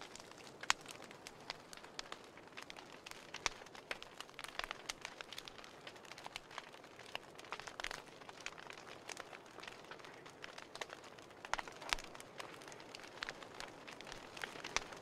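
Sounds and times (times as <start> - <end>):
wood logs crackling: 0.0 - 15.0.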